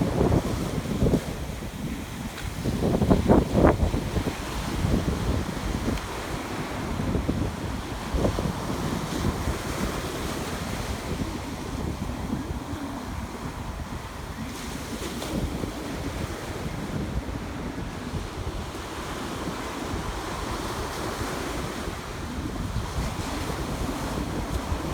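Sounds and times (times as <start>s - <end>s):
ocean surf on beach: 0.0s - 24.9s
wind buffeting microphone: 0.0s - 24.9s.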